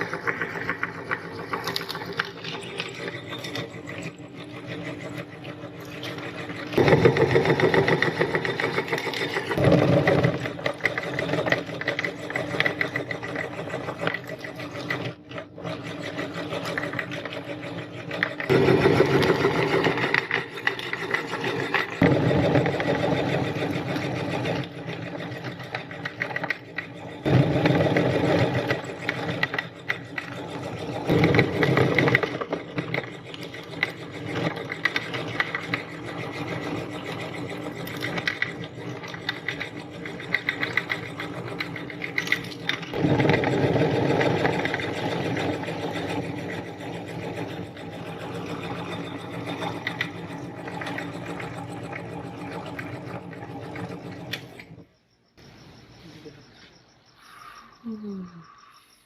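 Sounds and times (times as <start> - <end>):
electric meat grinder whirring: 0.0 - 54.8.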